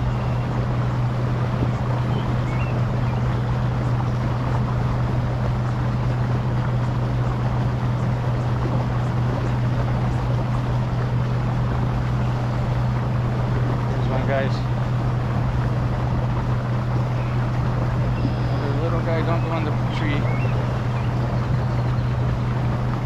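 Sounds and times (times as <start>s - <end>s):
constant rushing noise: 0.0s - 23.0s
steady low hum: 0.0s - 23.0s.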